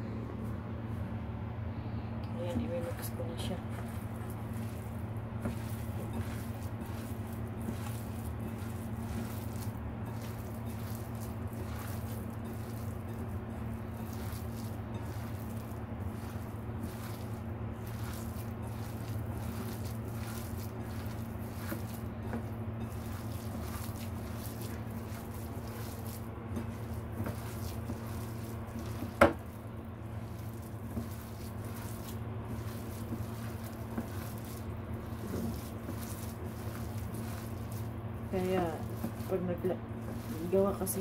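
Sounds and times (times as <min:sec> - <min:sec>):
low hum: 0:00.0 - 0:41.0
squelching of wet filling: 0:03.6 - 0:41.0.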